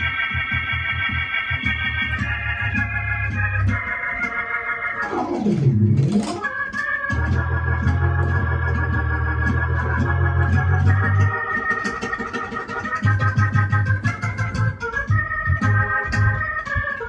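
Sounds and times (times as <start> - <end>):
electronic keyboard organ chords: 0.0 - 17.0.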